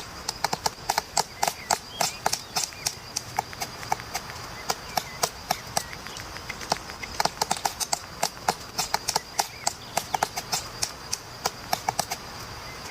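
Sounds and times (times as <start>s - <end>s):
woodpecker pecking wood: 0.0s - 12.9s.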